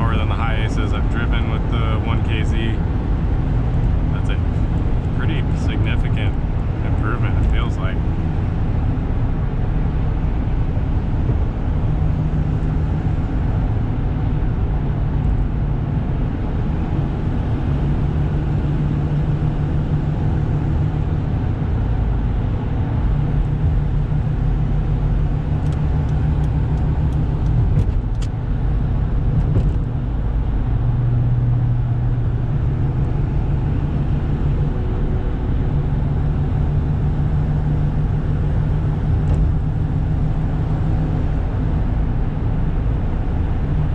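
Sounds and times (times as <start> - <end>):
diesel van engine: 0.0 - 43.9
road noise: 0.0 - 43.9.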